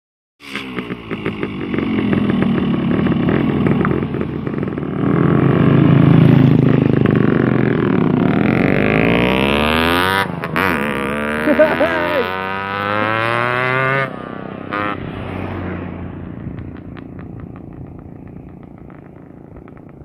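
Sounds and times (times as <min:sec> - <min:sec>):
motorcycle engine stuttering and revving: 0:00.4 - 0:20.0.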